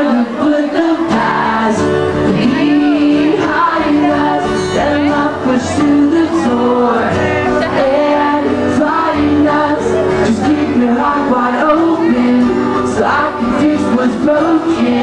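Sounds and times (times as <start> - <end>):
man singing: 0.0 - 15.0
pop-rock band playing: 0.0 - 15.0.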